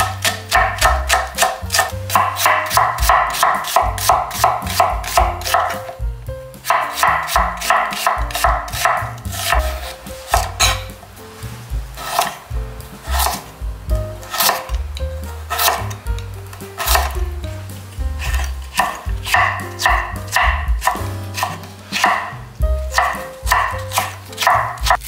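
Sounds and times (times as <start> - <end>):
knife slicing on cutting board: 0.0 - 6.0, 6.6 - 13.6, 14.2 - 16.0, 16.6 - 17.2, 18.2 - 25.0
background music with bass: 0.0 - 25.0.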